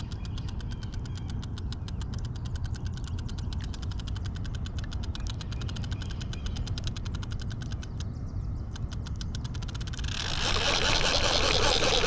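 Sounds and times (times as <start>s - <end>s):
fishing reel clicking: 0.0s - 8.1s, 8.8s - 12.0s.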